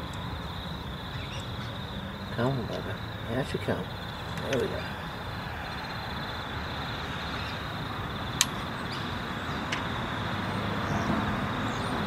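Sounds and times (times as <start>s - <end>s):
distant road traffic hum: 0.0s - 12.0s.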